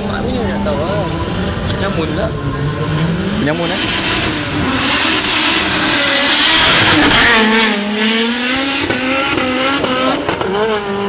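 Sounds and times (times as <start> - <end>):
racing car engine at high revs: 0.0 - 11.0.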